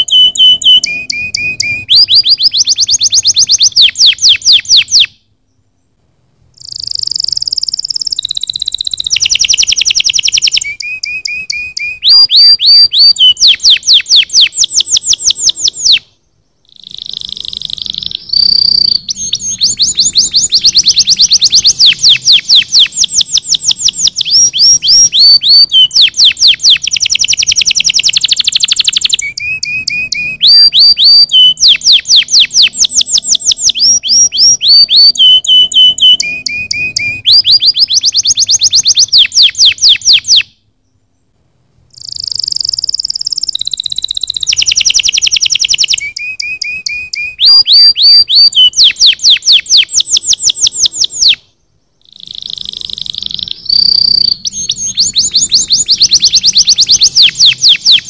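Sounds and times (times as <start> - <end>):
canary singing rapid trills: 0.0 - 5.7, 6.6 - 40.5, 41.9 - 51.4, 52.0 - 58.0.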